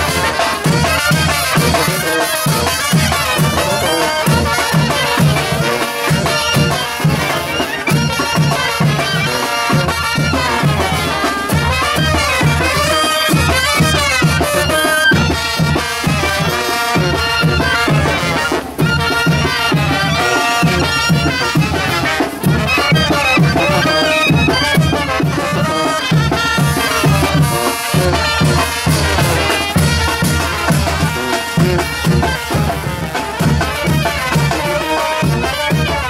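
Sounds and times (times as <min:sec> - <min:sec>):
bass drum and cymbals beat: 0:00.0 - 0:36.0
brass band playing: 0:00.0 - 0:36.0.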